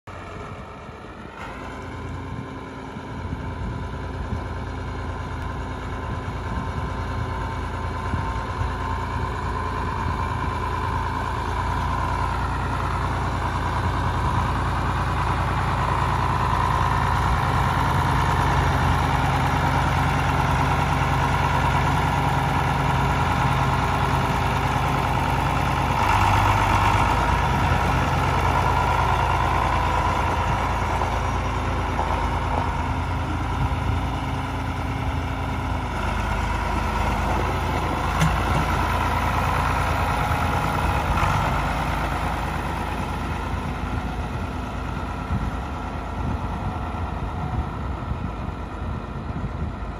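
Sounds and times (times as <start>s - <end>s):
tractor diesel engine passing: 0.0s - 49.9s.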